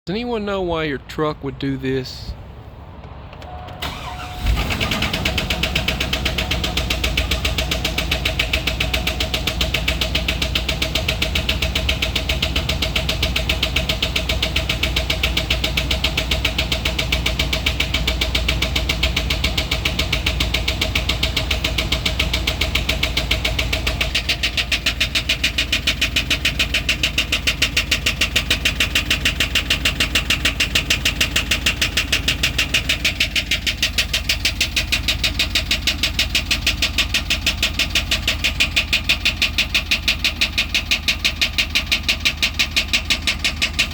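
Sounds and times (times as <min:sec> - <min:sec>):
truck engine idling: 0:00.1 - 0:43.9
fast rattling tick: 0:05.1 - 0:43.9.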